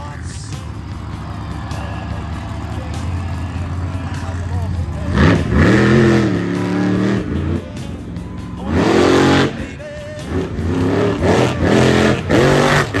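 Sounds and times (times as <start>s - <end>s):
truck engines revving hard: 0.0s - 13.0s.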